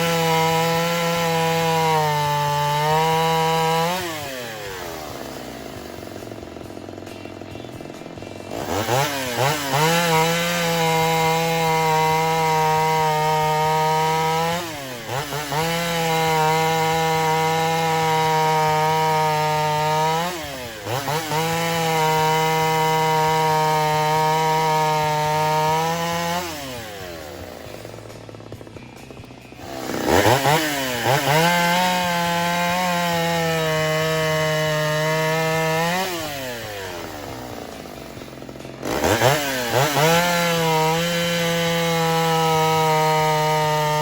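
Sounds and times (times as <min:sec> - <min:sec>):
chainsaw revving at full throttle: 0:00.0 - 0:44.0.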